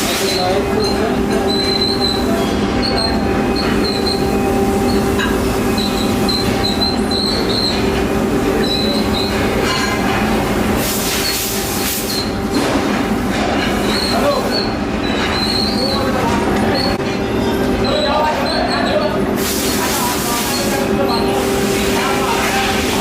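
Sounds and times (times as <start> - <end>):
workshop machinery humming: 0.0 - 23.0
short high-pitched squeaks: 0.2 - 10.0, 11.1 - 12.7, 13.7 - 21.3.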